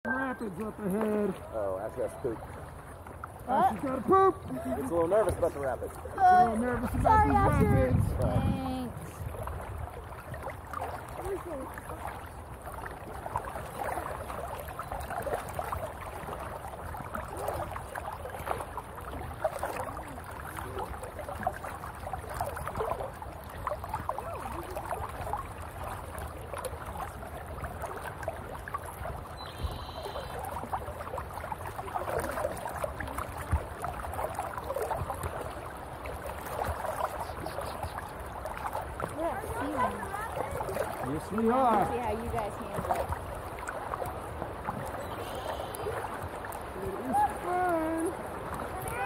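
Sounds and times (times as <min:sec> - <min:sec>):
river water lapping against hull: 0:00.0 - 0:49.0.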